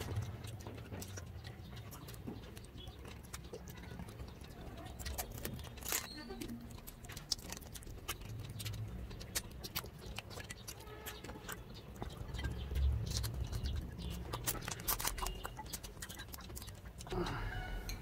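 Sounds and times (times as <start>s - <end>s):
wet chewing and lip smacks: 0.0s - 18.0s.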